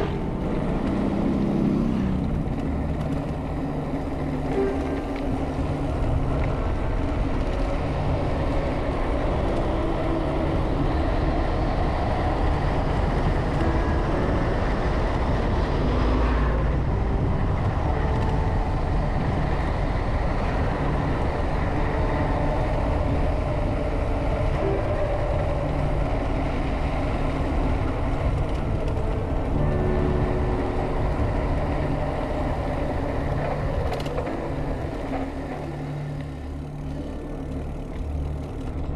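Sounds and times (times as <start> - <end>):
bicycle tyres rumbling on road: 0.0 - 38.9.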